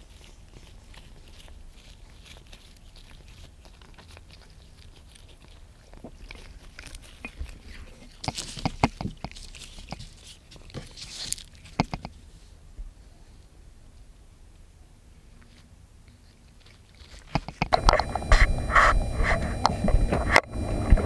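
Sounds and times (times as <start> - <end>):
cat crunching a snack: 0.0 - 12.5, 15.1 - 21.0.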